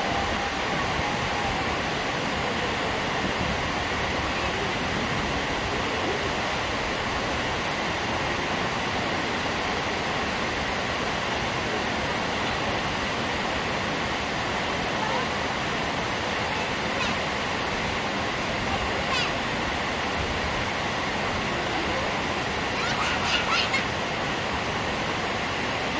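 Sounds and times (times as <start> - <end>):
water rushing down dam spillway: 0.0 - 25.9.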